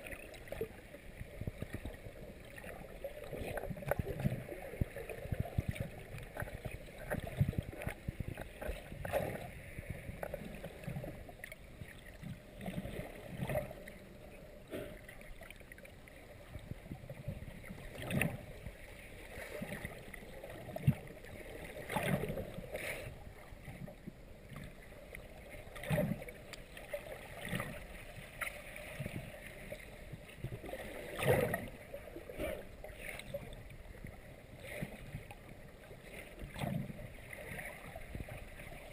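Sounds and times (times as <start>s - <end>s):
underwater swishes and soft thuds: 0.0s - 38.9s.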